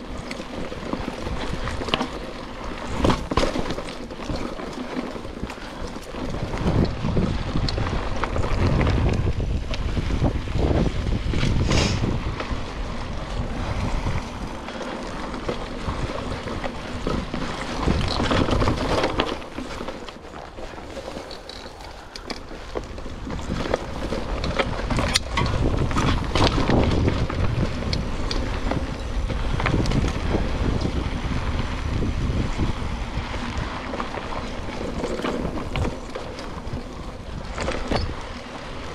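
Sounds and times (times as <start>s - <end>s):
bike knocks and clicks over bumps: 0.0s - 38.9s
bike tyre noise on dirt: 0.0s - 38.9s
wind rushing over microphone: 5.3s - 19.8s, 21.2s - 38.9s.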